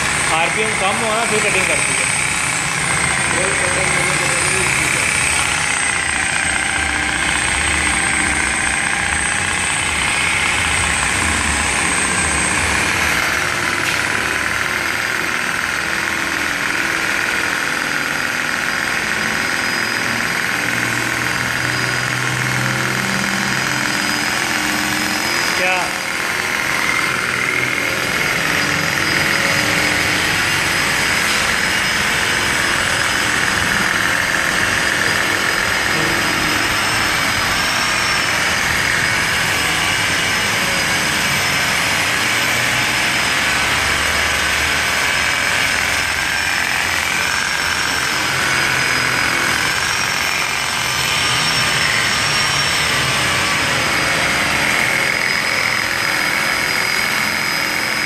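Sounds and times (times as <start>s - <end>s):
electric polisher motor whine: 0.0s - 58.0s.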